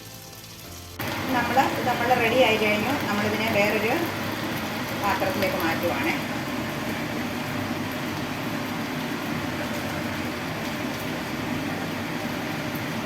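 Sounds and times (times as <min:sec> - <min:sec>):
kitchen background hum: 0:00.0 - 0:13.0.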